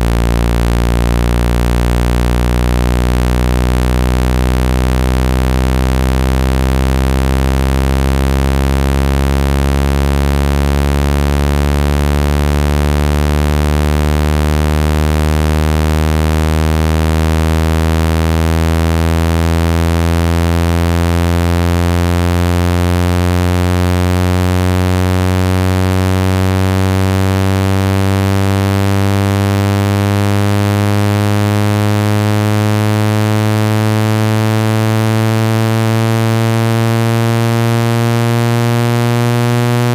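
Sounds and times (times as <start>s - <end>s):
low buzzing speaker tone: 0.0s - 39.9s.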